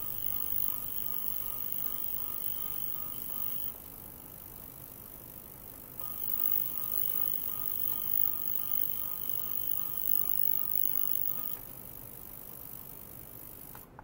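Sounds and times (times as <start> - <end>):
soft pulsing tone: 0.0 - 3.8, 6.0 - 13.6
faint high whine: 0.0 - 14.0
ultrasonic cleaner hiss: 0.0 - 14.0.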